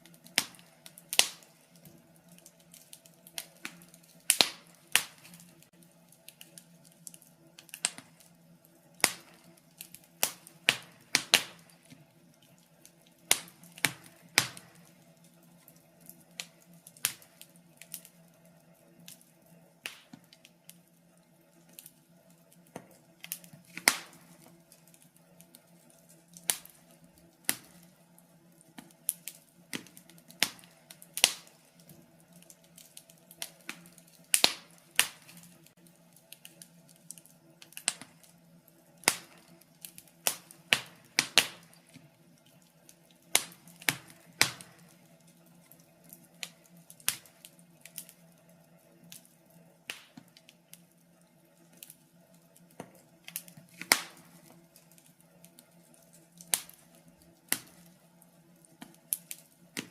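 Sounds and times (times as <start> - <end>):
faint steady hum: 0.0 - 59.9
wood fire crackling and popping: 0.0 - 59.9.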